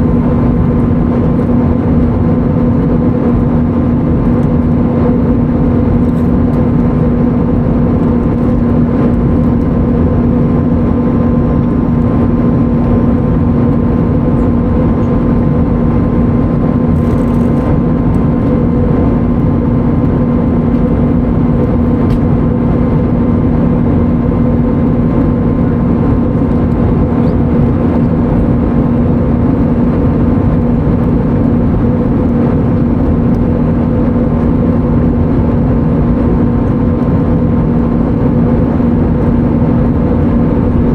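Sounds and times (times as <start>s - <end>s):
airplane cabin engine rush: 0.0s - 40.9s
constant low hum: 0.0s - 40.9s.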